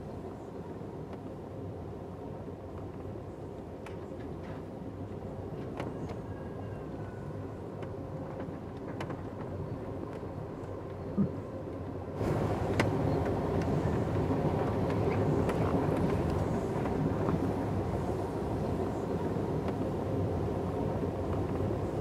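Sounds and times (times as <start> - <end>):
train rumbling at speed: 0.0 - 22.0.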